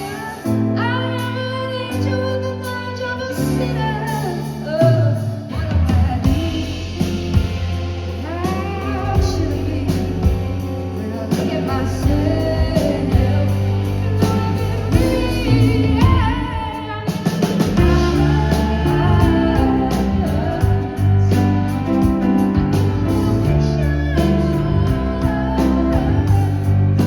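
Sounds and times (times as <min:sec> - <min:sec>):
live pop band: 0:00.0 - 0:27.0
woman singing: 0:00.0 - 0:27.0.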